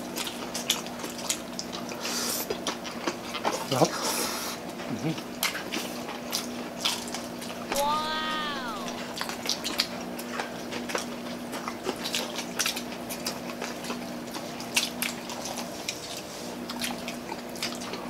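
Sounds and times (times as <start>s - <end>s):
people chewing and smacking lips: 0.0s - 18.0s.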